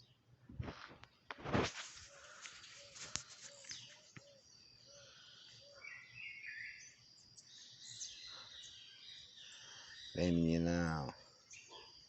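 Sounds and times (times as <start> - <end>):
birds chirping: 1.9 - 12.0.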